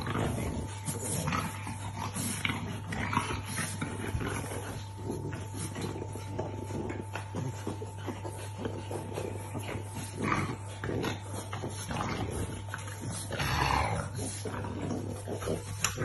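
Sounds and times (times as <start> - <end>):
dogs play-fighting noises: 0.0 - 16.0.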